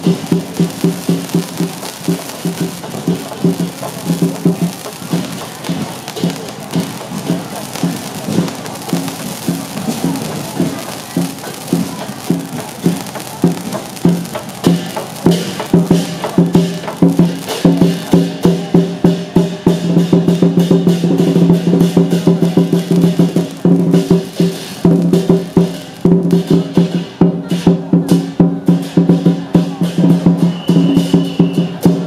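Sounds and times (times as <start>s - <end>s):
drum strokes: 0.0s - 32.0s
wood-block strokes: 0.0s - 32.0s.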